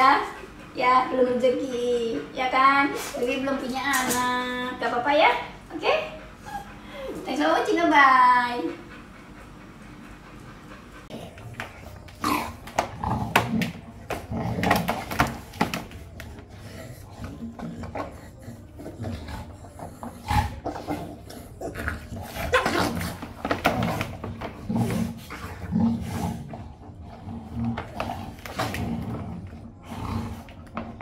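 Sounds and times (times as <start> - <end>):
dogs growling: 0.0 - 31.0.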